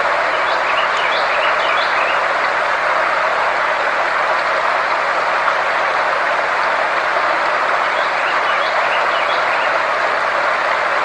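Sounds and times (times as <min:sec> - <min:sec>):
steady hiss-like noise: 0:00.0 - 0:11.0.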